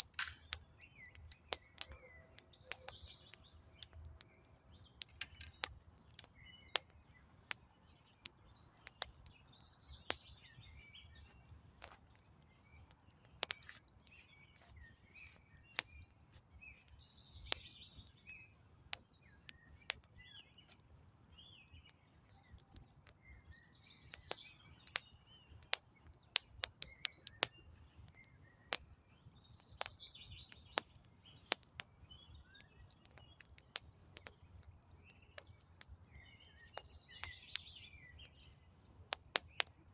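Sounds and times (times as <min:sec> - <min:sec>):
campfire crackling: 0:00.0 - 0:39.9
small birds chirping: 0:00.0 - 0:39.9.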